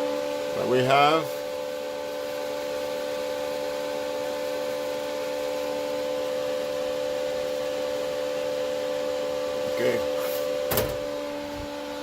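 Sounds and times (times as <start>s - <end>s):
cooling fan humming: 0.0s - 12.0s.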